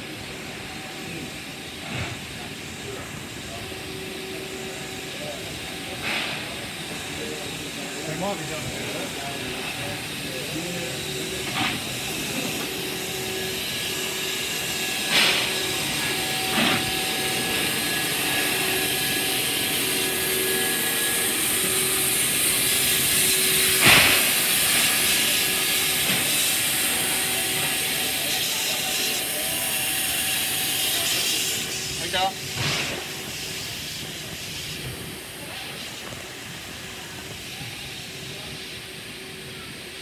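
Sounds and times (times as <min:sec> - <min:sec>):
steam locomotive hissing: 0:00.0 - 0:40.0.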